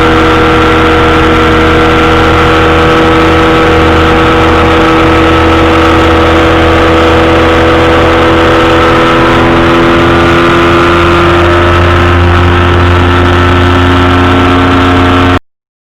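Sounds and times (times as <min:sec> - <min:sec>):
engine and propeller running: 0:00.0 - 0:15.4.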